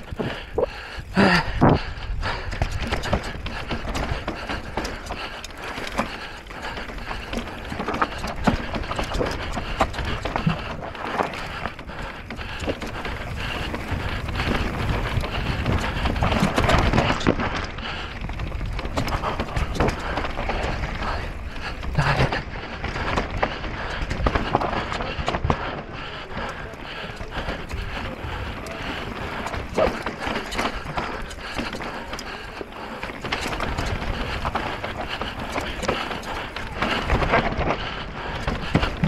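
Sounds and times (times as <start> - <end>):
bike rattling over rocks: 0.0 - 39.0.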